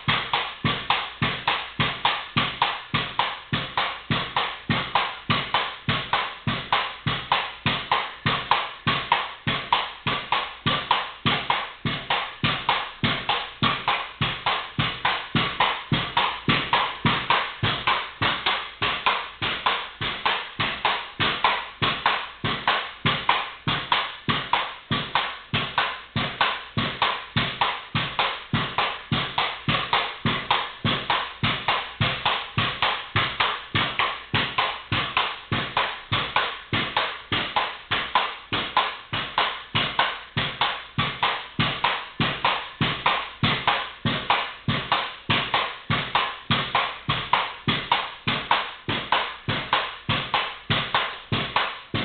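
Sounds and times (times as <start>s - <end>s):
pogo stick bouncing on concrete: 0.0s - 52.0s.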